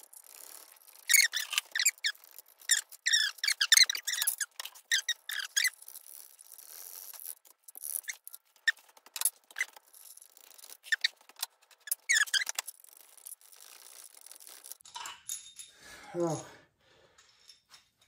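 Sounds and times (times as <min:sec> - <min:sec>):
metal squeaks and scrapes: 0:00.2 - 0:14.8.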